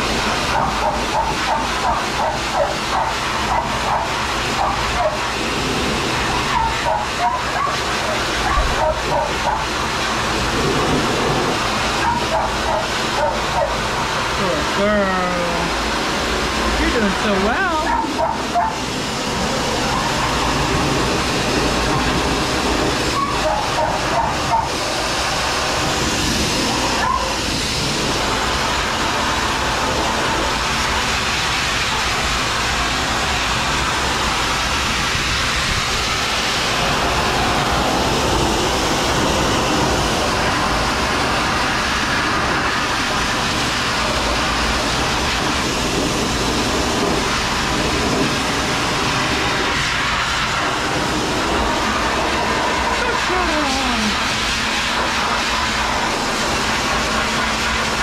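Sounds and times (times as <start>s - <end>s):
dog dryer blowing air: 0.0s - 58.0s.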